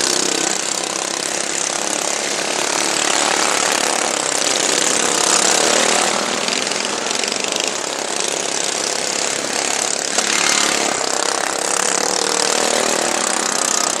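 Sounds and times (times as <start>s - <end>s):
racing lawn mower engines: 0.0s - 14.0s.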